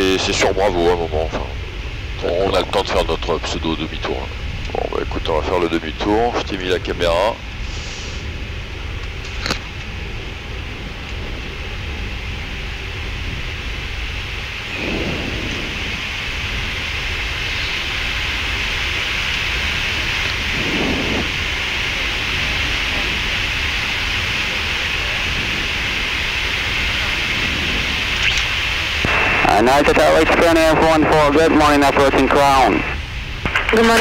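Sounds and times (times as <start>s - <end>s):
cockpit air-conditioning and engine noise: 0.0s - 34.0s.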